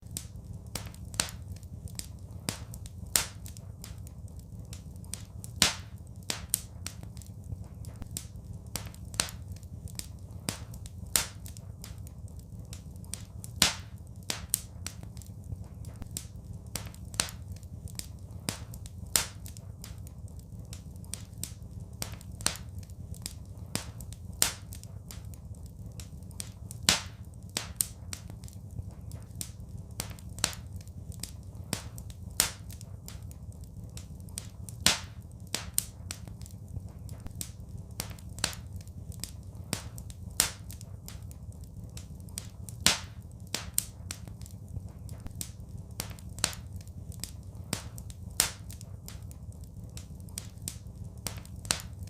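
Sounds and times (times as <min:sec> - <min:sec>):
low fire rumble: 0:00.0 - 0:52.0
wood fire crackling: 0:00.0 - 0:52.0.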